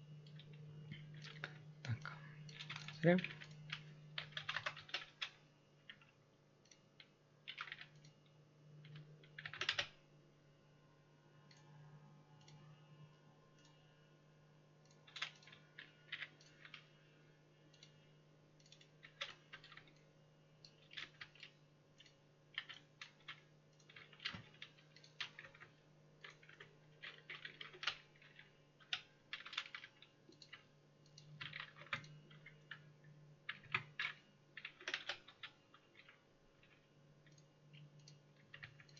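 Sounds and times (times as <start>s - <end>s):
faint low hum: 0.0s - 38.9s
keyboard typing: 0.2s - 10.0s, 14.8s - 17.0s, 17.7s - 38.9s.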